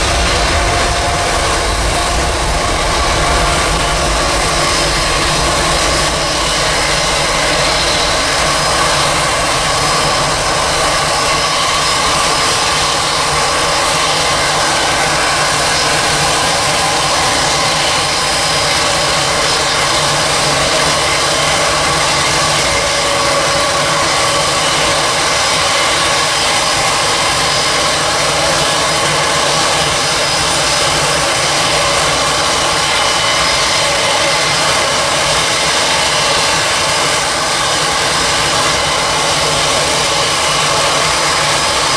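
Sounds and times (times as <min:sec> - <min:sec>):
jet engine roar with high whine: 0:00.0 - 0:41.9.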